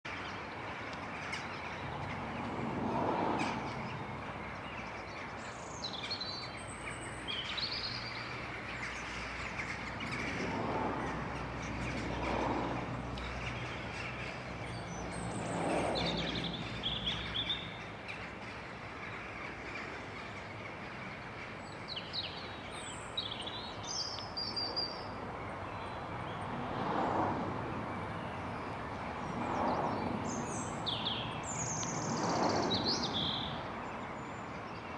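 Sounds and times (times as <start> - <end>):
outdoor background noise: 0.0 - 34.9
birds chirping and calling: 3.1 - 26.4, 28.0 - 34.9.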